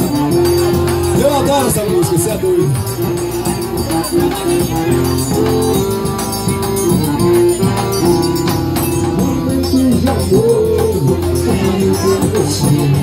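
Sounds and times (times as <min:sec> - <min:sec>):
accordion chords: 0:00.0 - 0:13.0
bass drum beat: 0:00.0 - 0:13.0
small percussion: 0:00.0 - 0:13.0.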